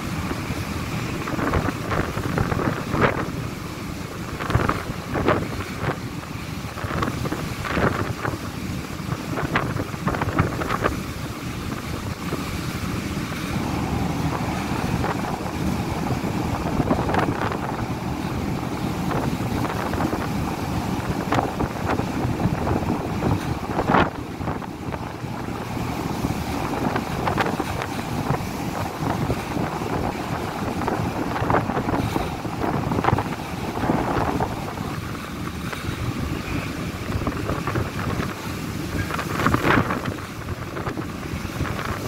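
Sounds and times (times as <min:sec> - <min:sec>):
rough sea: 0:00.0 - 0:42.0
rushing wind: 0:00.0 - 0:42.0
wind buffeting microphone: 0:00.0 - 0:42.0.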